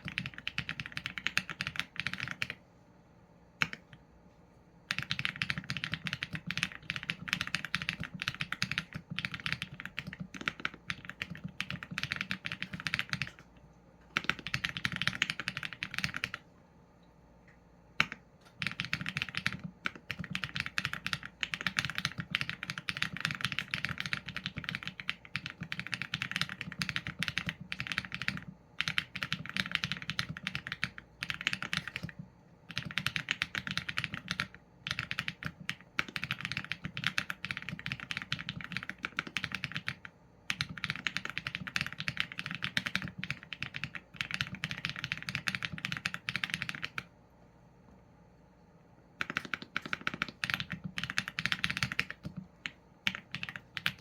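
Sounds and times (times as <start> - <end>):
mechanical keyboard typing: 0.0 - 2.6, 3.6 - 4.0, 4.9 - 13.5, 14.1 - 16.4, 18.0 - 47.1, 49.2 - 54.0.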